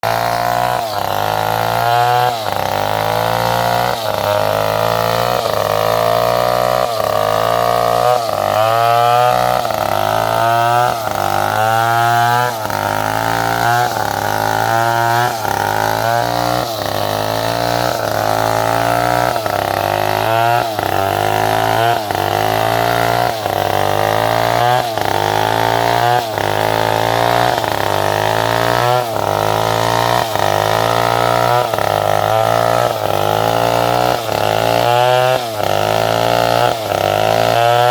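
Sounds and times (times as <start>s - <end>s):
power saw cutting wood: 0.0s - 37.9s.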